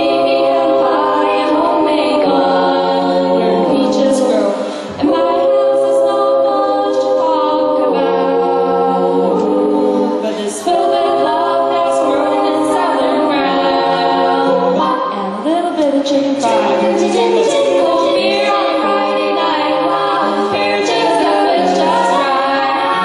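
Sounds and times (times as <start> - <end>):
a cappella group singing in harmony: 0.0 - 23.0.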